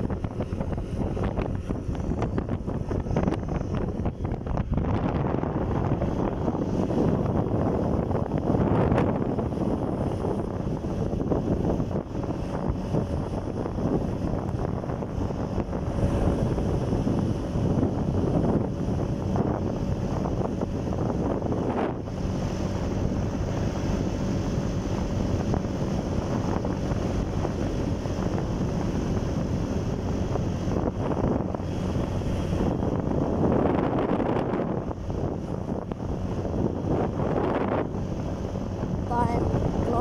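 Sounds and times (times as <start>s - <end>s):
motorcycle engine drone: 0.0s - 40.0s
wind buffeting microphone: 0.0s - 40.0s.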